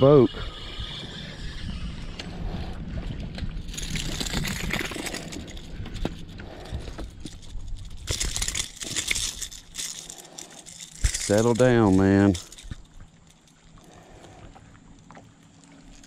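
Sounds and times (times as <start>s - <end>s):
fishing reel and line noise: 0.0s - 16.0s.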